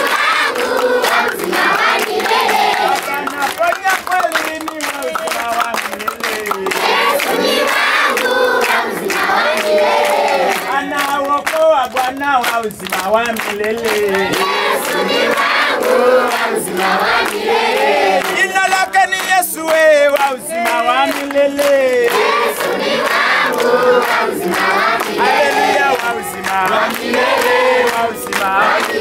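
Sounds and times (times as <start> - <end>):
crowd praying and crying out: 0.0 - 29.0.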